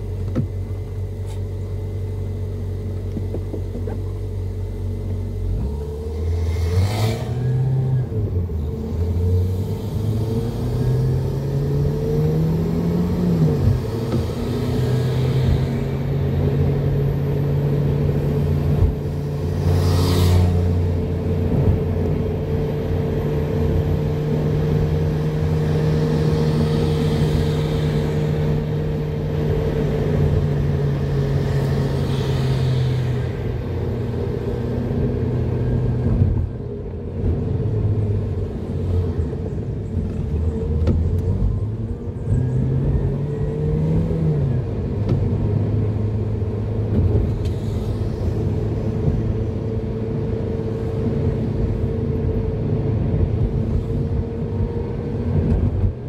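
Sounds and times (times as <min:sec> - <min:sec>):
car engine accelerating: 0:00.0 - 0:56.0
road rumble: 0:00.0 - 0:56.0.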